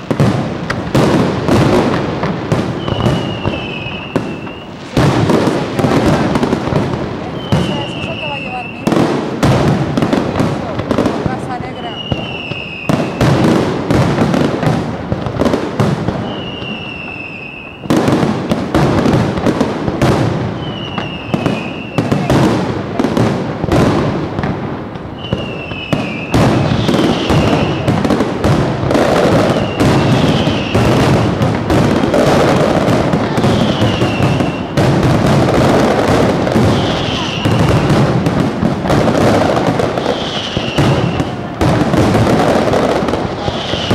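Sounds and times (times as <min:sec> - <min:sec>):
falling firework whistle: 0:00.0 - 0:06.2, 0:07.2 - 0:09.1, 0:11.5 - 0:13.6, 0:15.4 - 0:19.2, 0:20.0 - 0:23.1, 0:25.0 - 0:38.5, 0:39.1 - 0:43.9
fireworks crackling and banging: 0:00.0 - 0:43.9.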